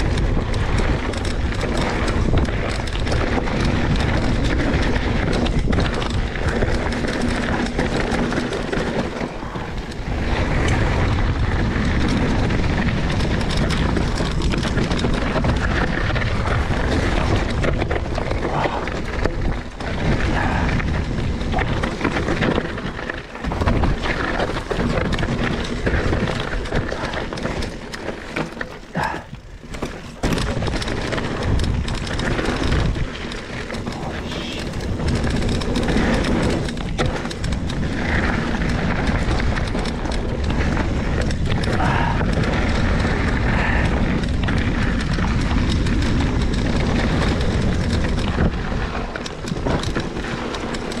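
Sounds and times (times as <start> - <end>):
bike tyres rolling over rocks: 0.0 - 51.0
wind buffeting microphone: 0.0 - 51.0.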